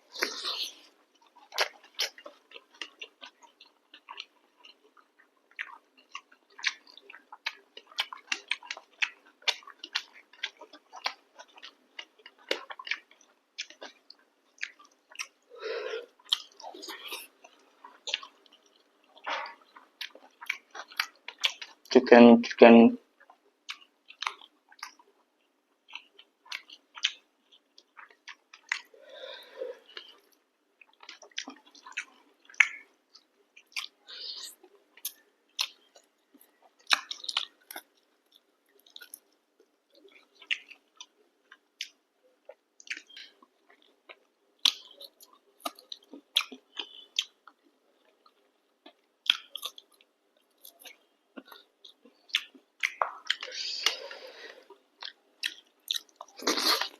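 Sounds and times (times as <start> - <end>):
person chewing food: 0.0 - 21.9, 23.1 - 56.9.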